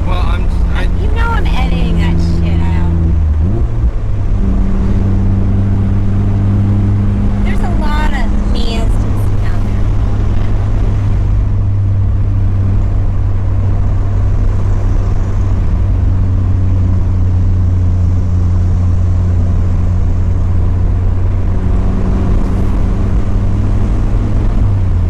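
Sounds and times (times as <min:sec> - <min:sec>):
car engine droning: 0:00.0 - 0:25.0
road and tyre noise: 0:00.0 - 0:25.0.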